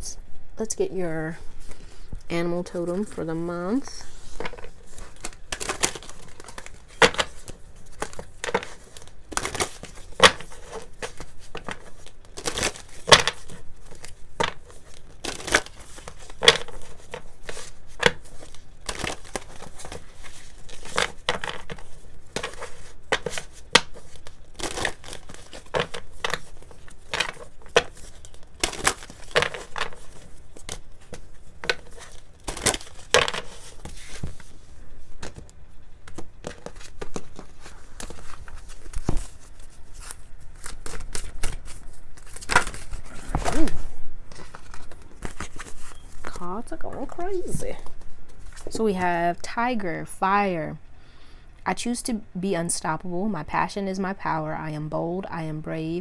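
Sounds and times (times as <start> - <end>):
cards being shuffled: 2.9 - 48.8.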